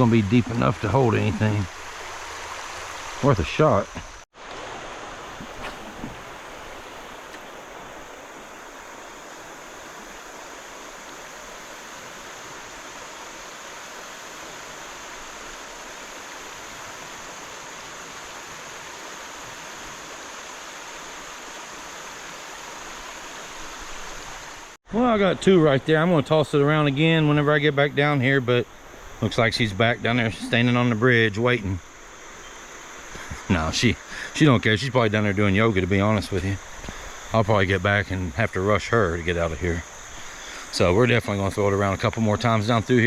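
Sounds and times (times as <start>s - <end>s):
creek water flowing: 0.0s - 43.0s.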